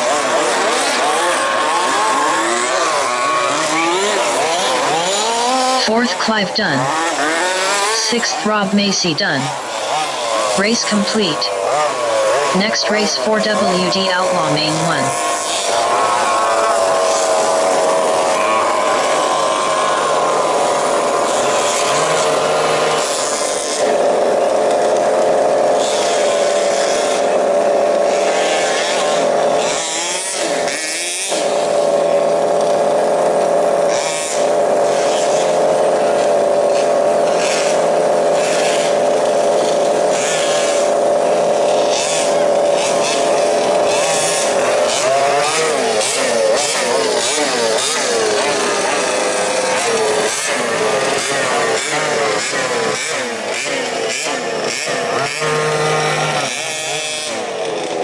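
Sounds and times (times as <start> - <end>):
small two-stroke engines buzzing: 0.0 - 58.0.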